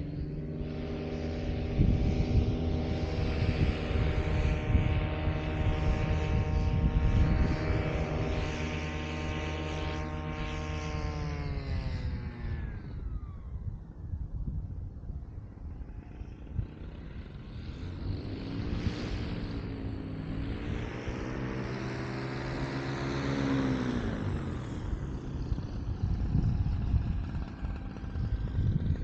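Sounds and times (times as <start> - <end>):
paramotor engine and propeller: 0.0 - 29.0
wind rumbling on microphone: 0.0 - 29.0.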